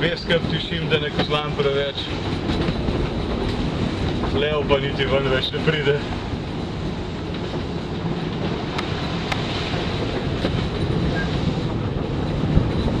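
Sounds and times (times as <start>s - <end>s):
rough sea: 0.0s - 13.0s
wind rushing: 1.8s - 13.0s.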